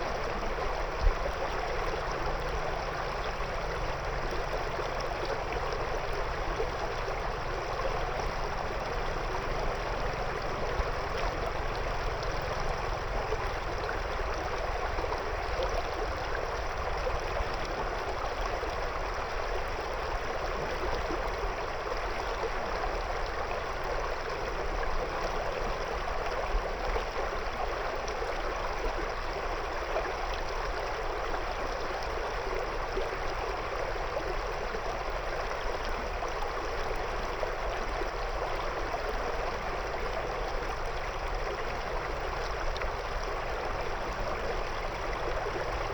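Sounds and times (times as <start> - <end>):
river flowing over stones: 0.0 - 45.9.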